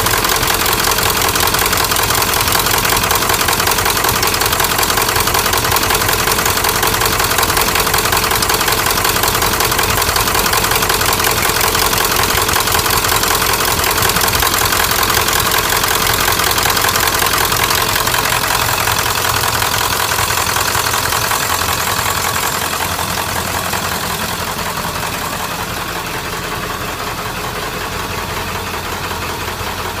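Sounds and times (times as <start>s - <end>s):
diesel engine idling with knock: 0.0s - 30.0s.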